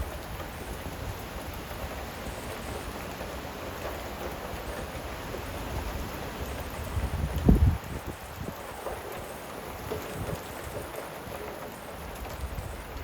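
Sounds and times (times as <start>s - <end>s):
steady rain falling: 0.0s - 13.0s
wind rumble on microphone: 0.0s - 13.0s.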